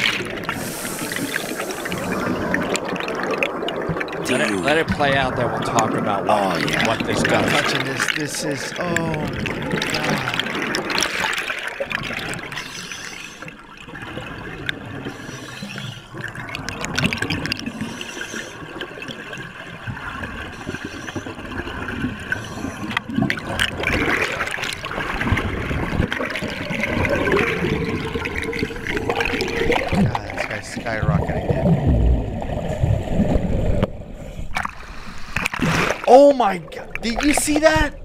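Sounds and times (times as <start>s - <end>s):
streaming air bubbles: 0.0s - 38.0s
underwater rushing water: 0.0s - 38.0s.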